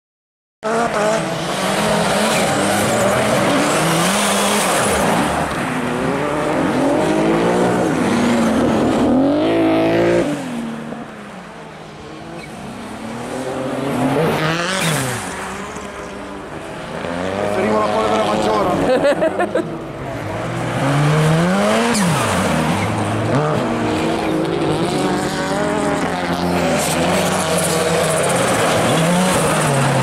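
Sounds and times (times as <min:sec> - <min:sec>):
rally car engine revving: 0:00.6 - 0:11.1, 0:12.0 - 0:30.0.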